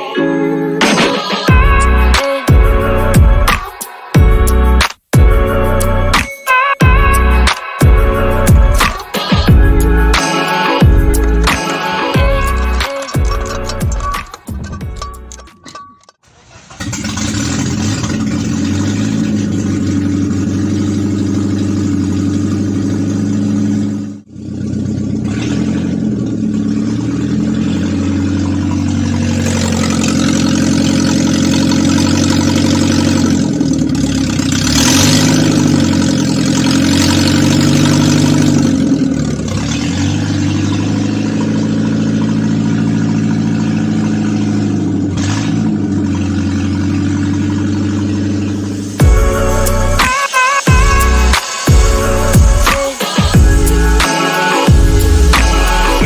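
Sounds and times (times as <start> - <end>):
car engine idling: 7.0 - 56.0.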